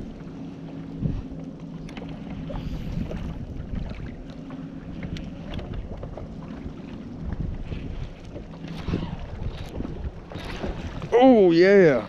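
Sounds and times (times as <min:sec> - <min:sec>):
boat motor humming: 0:00.0 - 0:12.0
wind buffeting microphone: 0:00.0 - 0:12.0.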